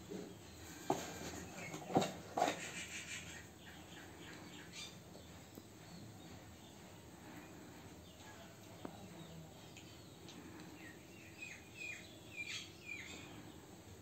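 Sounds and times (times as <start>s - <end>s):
faint background ambience: 0.0s - 14.0s.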